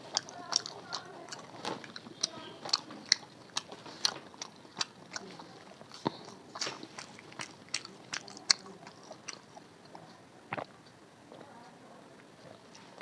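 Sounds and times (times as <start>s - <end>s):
person chewing food: 0.0s - 11.5s.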